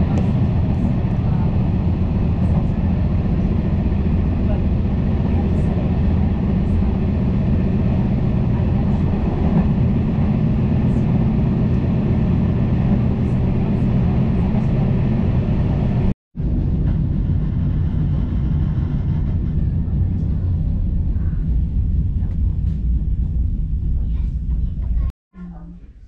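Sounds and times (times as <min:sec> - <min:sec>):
train wheels rumbling on track: 0:00.0 - 0:25.1.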